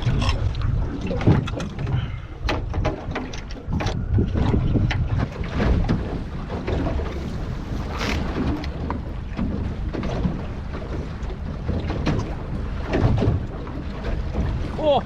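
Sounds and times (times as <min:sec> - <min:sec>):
water slapping hull: 0:00.0 - 0:15.0
wind buffeting microphone: 0:00.0 - 0:15.0.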